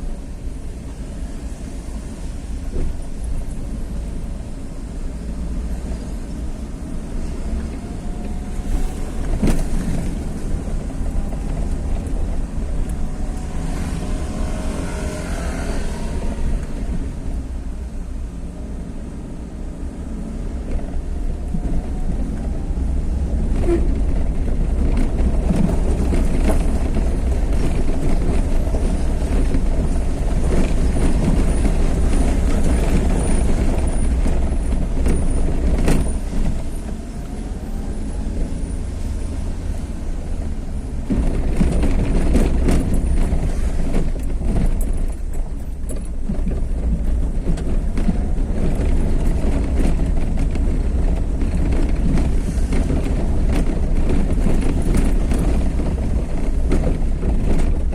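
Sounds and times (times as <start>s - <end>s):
vehicle engine and road noise: 0.0s - 57.9s.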